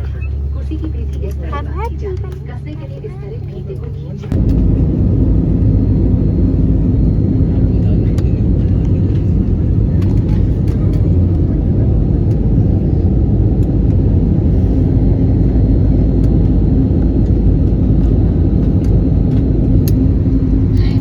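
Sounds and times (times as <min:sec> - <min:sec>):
jet cabin engine rumble: 0:00.0 - 0:21.0.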